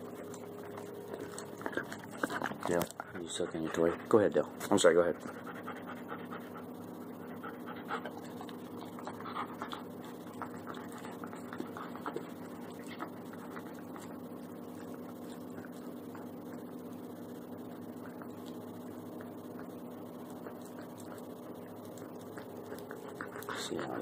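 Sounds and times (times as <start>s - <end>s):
dog chewing plush toy: 0.0s - 24.0s
dog panting: 0.0s - 24.0s
steady low hum: 0.0s - 24.0s.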